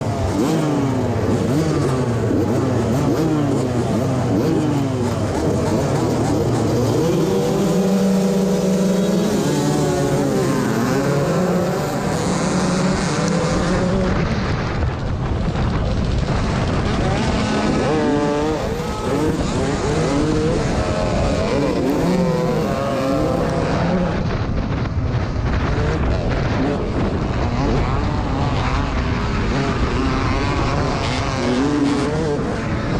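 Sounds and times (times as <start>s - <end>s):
motocross bike engines revving: 0.0s - 32.9s.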